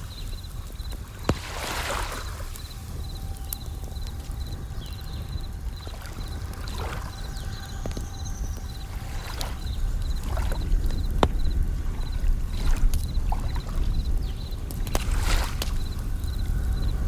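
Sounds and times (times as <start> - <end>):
cricket chirping: 0.0 - 17.0
sea waves: 0.0 - 17.0
wood fire crackling and popping: 0.0 - 17.0.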